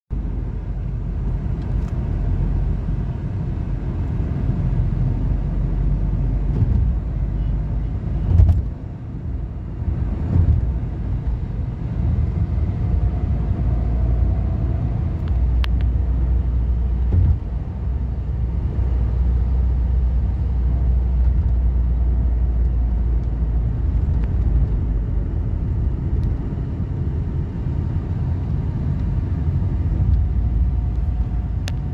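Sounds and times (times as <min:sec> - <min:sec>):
car engine and road noise: 0:00.1 - 0:31.9.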